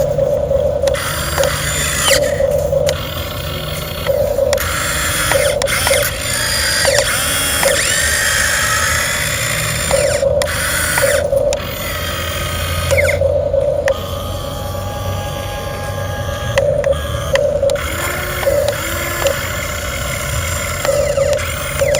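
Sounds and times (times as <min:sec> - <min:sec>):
toy excavator motors whining: 0:00.0 - 0:21.9.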